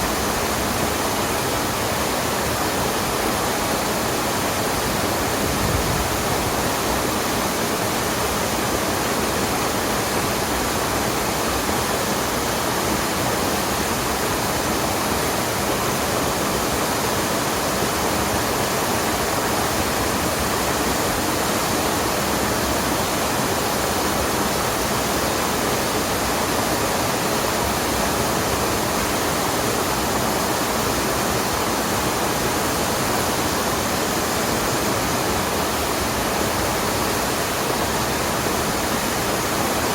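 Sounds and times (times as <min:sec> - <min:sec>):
rushing mountain stream: 0:00.0 - 0:39.9.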